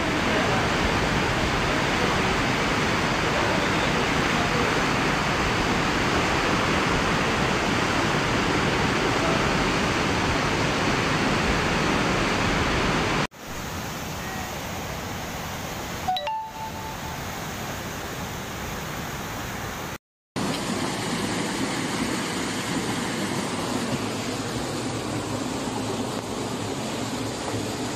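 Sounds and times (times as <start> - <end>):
floodwater rushing: 0.0 - 27.9.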